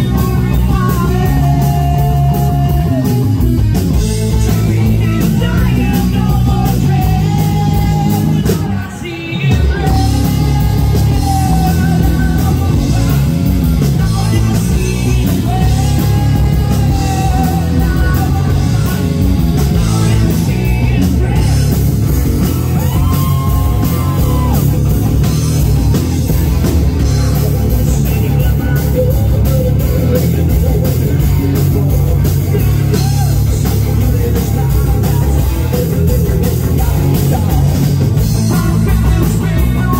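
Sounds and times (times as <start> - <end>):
man singing: 0.0 - 25.5, 26.3 - 39.9
live rock band playing: 0.0 - 39.9.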